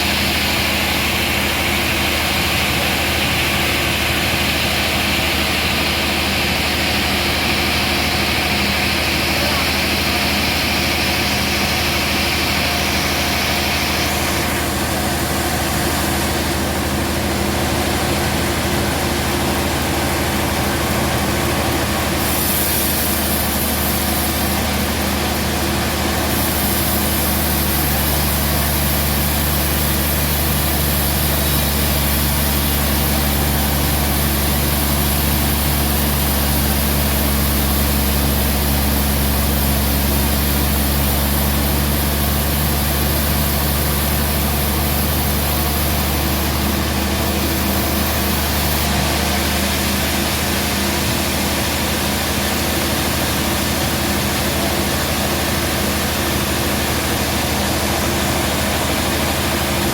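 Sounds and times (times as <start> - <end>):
hiss: 0.0 - 59.9
sawmill machinery humming: 0.0 - 59.9.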